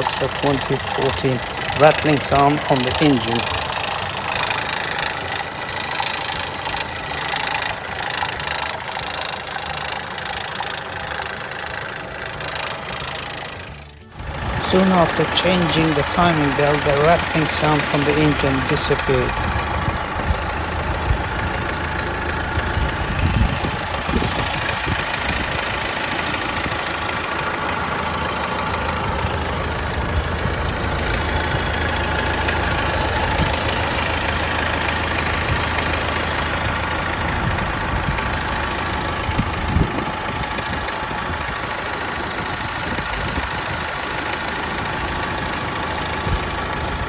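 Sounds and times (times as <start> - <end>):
diesel engine idling: 0.0 - 47.0
engine knocks: 0.0 - 47.0.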